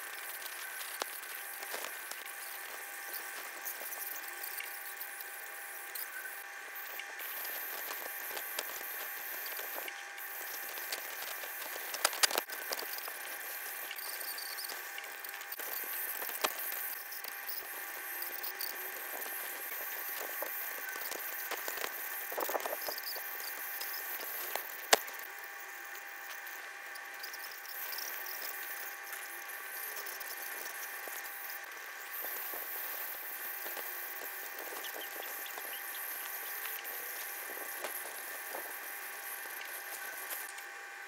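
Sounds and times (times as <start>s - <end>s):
dental scaler whine: 0.0s - 41.0s.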